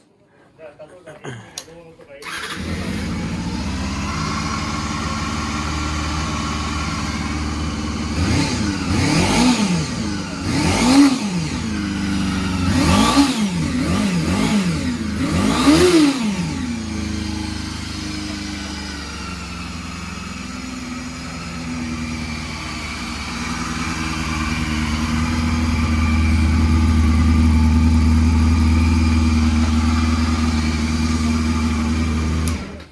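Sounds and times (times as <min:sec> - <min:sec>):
motorcycle engine idling and revving: 0:02.2 - 0:32.9.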